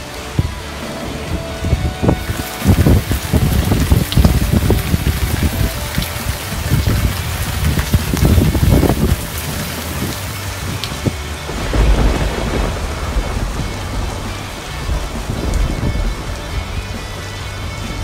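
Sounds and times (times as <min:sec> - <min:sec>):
deep thunder rumbles: 0:00.0 - 0:18.0
heavy rain pouring: 0:00.0 - 0:18.0.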